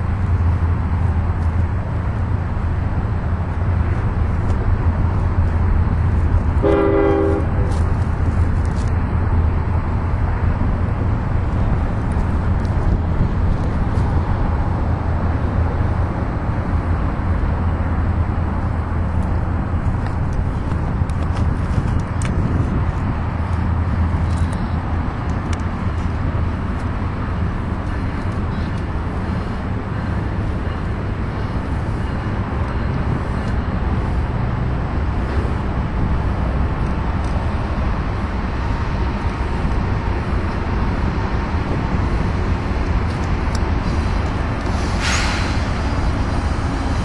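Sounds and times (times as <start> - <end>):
road traffic roar: 0.0 - 47.0.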